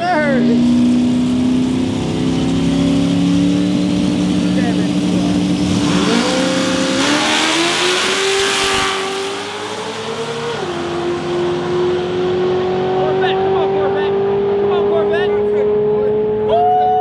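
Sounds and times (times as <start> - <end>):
car engines accelerating hard: 0.0 - 17.0.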